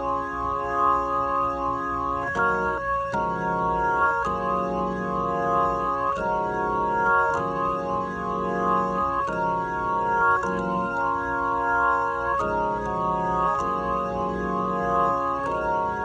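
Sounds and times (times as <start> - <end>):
organ chords through rotary speaker: 0.0 - 16.0.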